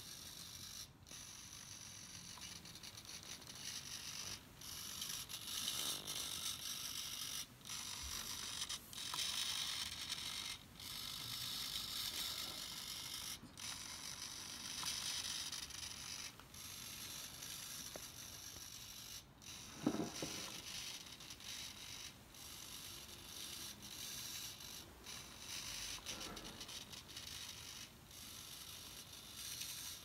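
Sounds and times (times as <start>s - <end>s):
servo motor whirring: 0.0s - 30.0s.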